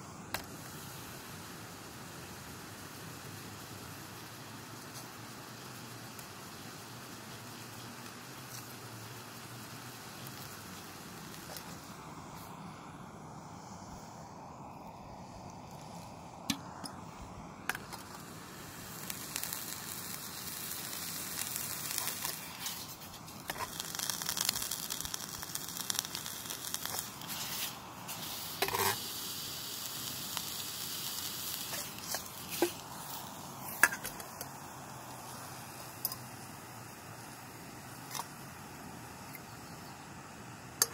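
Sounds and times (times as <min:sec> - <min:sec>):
sausages sizzling in a pan: 0:00.0 - 0:40.9.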